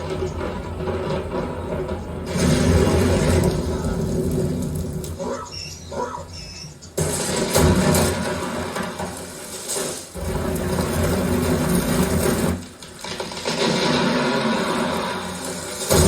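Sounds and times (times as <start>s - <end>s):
trees breaking: 0.0s - 5.4s, 7.0s - 16.0s
thunder: 0.0s - 5.5s, 7.0s - 16.0s.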